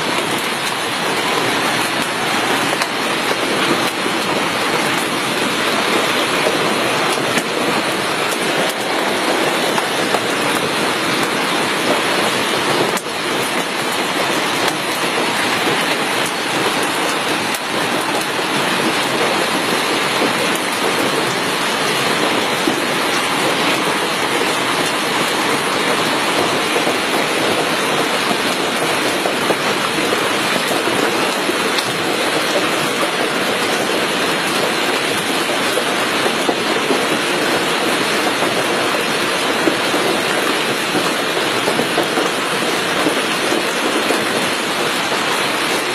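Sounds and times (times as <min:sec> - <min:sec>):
hailstones pelting surfaces: 0:00.0 - 0:45.9.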